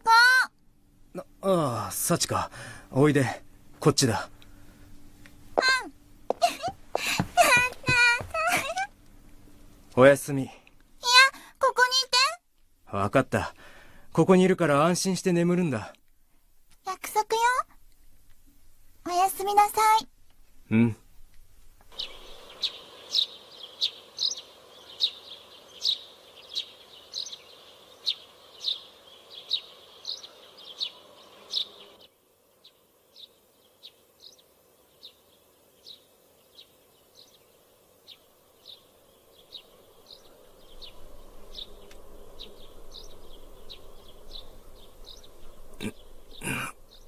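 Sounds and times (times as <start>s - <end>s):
low steady background hum: 0.0s - 47.0s
small birds chirping: 1.2s - 16.1s, 21.8s - 47.0s.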